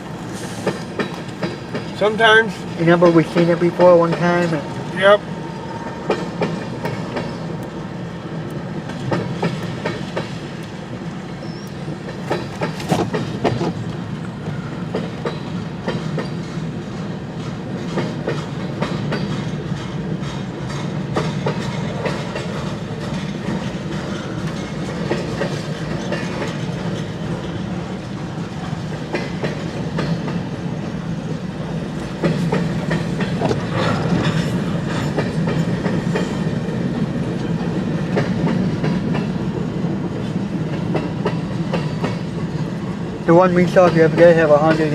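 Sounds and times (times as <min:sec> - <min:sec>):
train rumble: 0:00.0 - 0:44.9
train wheels clicking over rail joints: 0:00.0 - 0:44.9.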